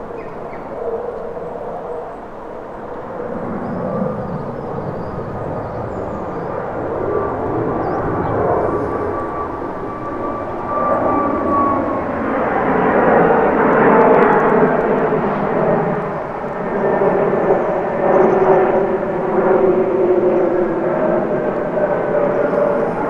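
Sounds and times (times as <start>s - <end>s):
jet airliner flying over: 0.0s - 23.0s.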